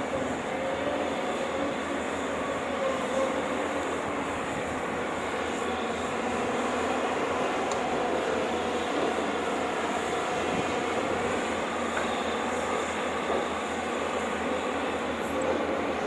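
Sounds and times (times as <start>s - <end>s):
heavy machine diesel engine running: 0.0s - 16.0s.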